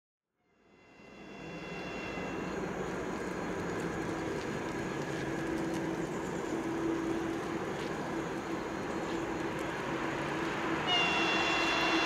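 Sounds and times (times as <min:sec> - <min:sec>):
train rumbling: 0:00.5 - 0:12.0
locomotive hum: 0:00.6 - 0:12.0.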